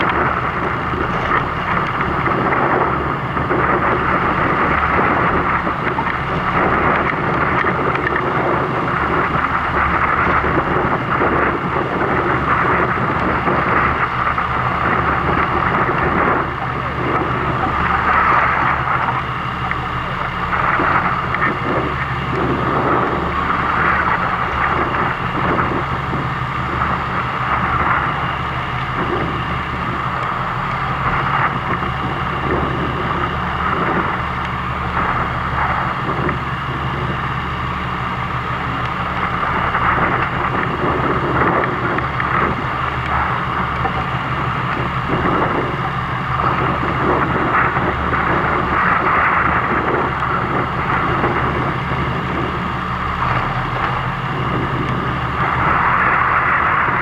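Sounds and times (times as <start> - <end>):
boat engine humming: 0.0 - 57.0
water rushing around boat: 0.0 - 57.0.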